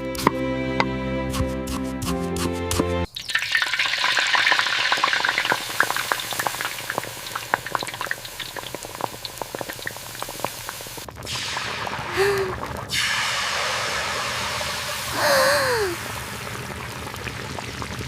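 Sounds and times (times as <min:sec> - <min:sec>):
food sizzling in hot oil: 0:03.1 - 0:18.0.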